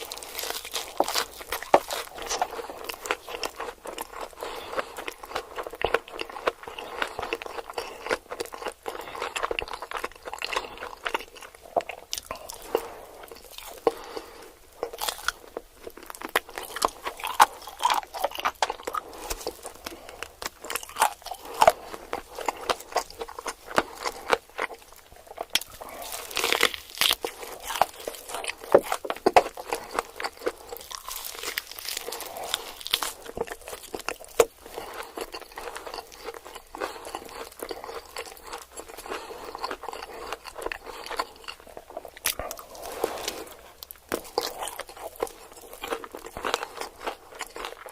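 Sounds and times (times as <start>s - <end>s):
crunchy bites and chewing: 0.0s - 47.9s.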